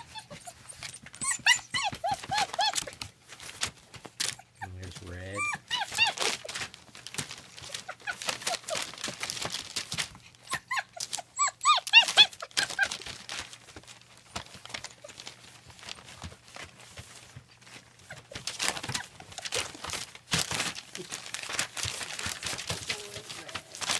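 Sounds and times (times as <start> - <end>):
puppies whining: 0.0 - 23.9
scuffling and clicking: 0.0 - 23.9.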